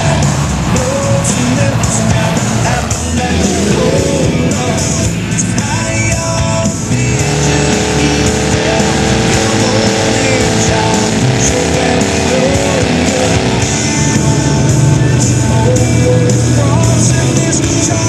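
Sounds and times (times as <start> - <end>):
background music with guitar: 0.0 - 18.0
truck engines running: 0.0 - 18.0.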